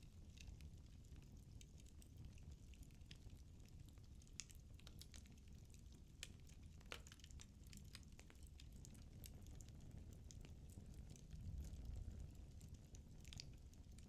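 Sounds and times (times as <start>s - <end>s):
low rumble of flames: 0.0s - 14.0s
firewood crackling and popping: 0.1s - 14.0s.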